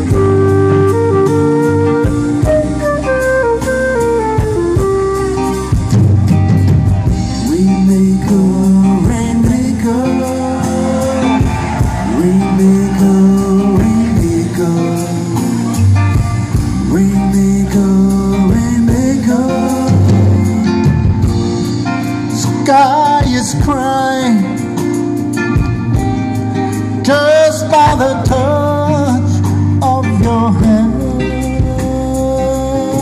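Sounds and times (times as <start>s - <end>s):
live rock band playing: 0.0s - 33.0s
sliding lead melody: 0.0s - 33.0s.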